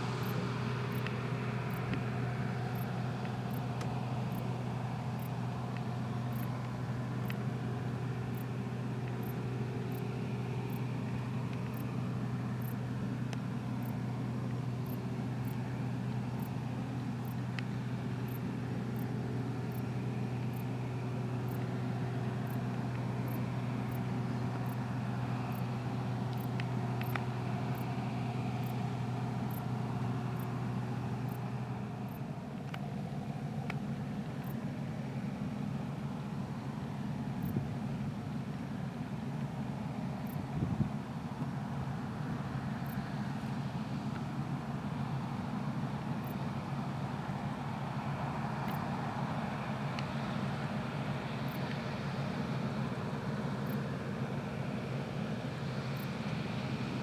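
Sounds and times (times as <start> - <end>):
combine harvester engine hum: 0.0 - 57.0.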